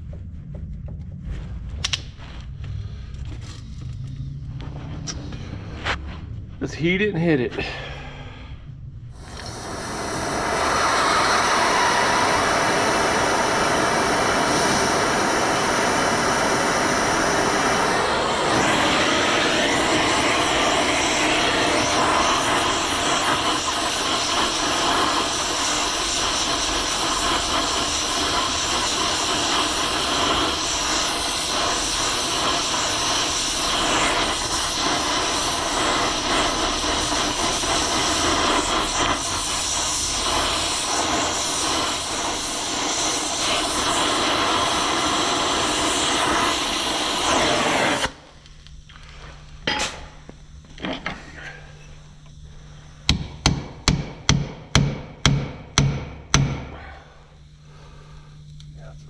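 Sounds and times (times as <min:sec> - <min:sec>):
gas torch flame hissing: 0:01.8 - 0:58.9.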